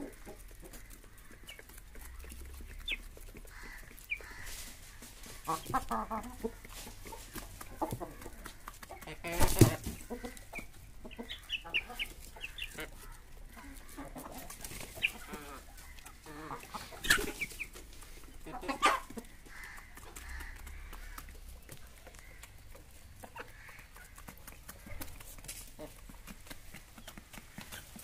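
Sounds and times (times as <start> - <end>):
beaks tapping on concrete: 0.0 - 28.0
chickens clucking: 0.0 - 28.0.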